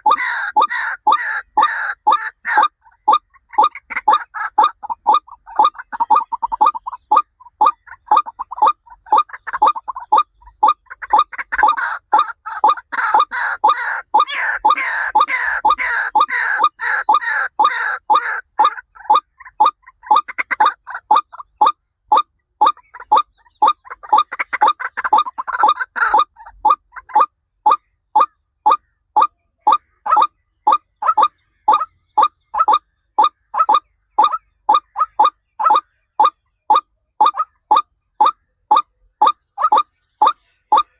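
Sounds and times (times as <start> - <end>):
birds squawking: 0.0 - 21.7, 22.6 - 40.9
birds calling sharp notes: 0.0 - 40.9.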